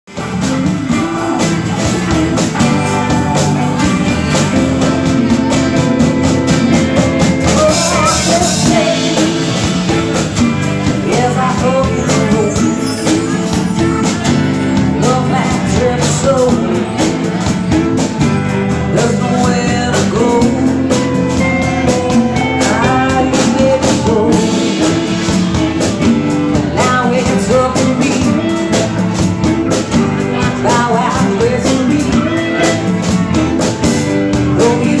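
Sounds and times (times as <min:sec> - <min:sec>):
rock song with singer: 0:00.1 - 0:35.0.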